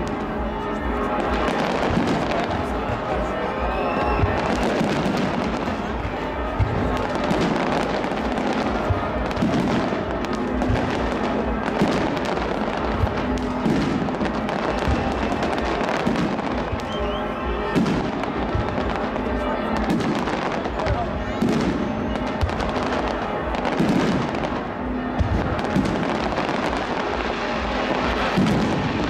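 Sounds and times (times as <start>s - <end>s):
fireworks crackling and popping: 0.0s - 29.0s
music playing: 0.0s - 29.0s.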